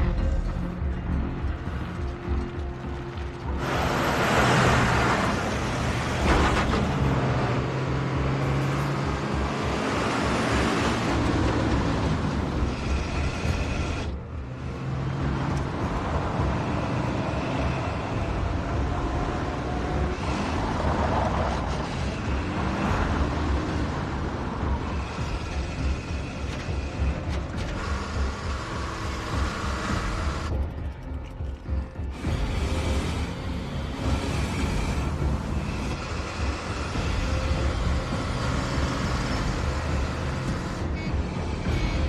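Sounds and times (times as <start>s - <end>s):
heavy truck engines rumbling: 0.0s - 42.0s
road noise: 0.0s - 42.0s.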